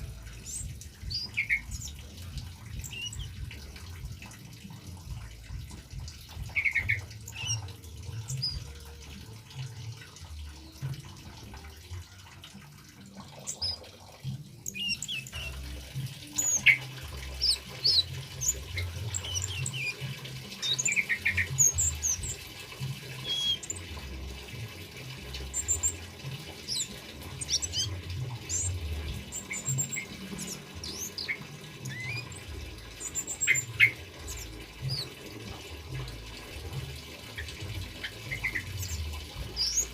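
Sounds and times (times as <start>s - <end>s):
birds chirping and whistling: 0.0s - 9.9s, 13.1s - 39.9s
gurgling running water: 0.0s - 39.9s.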